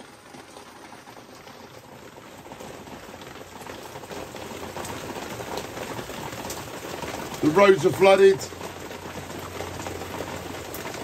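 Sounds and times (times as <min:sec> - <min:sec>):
torrential rain on standing water: 0:00.0 - 0:11.0.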